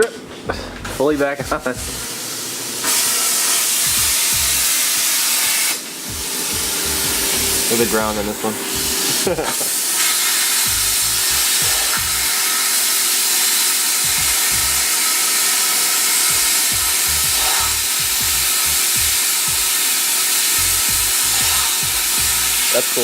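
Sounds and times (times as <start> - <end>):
plasma cutter hissing: 0.9 - 23.0.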